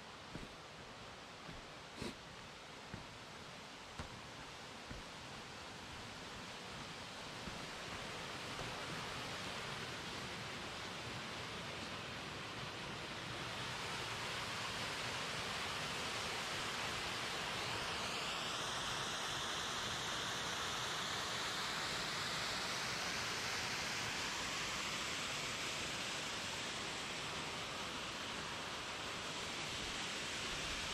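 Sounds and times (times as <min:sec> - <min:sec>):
waterfall cascading over rock: 0:00.1 - 0:30.9.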